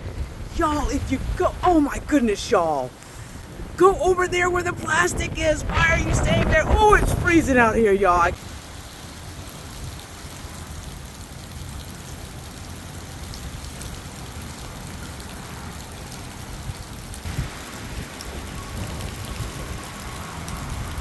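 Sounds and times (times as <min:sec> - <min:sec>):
rain and hail pelting down: 0:00.0 - 0:21.0
hailstones ticking: 0:00.1 - 0:21.0.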